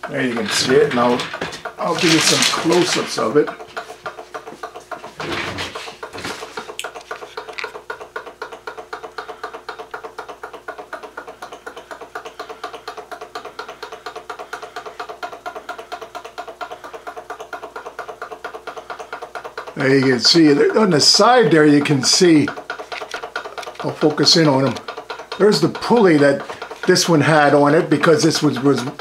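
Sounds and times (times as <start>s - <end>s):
loud mechanical knocks: 0.0s - 29.0s
small engine mechanical beat: 0.0s - 29.0s.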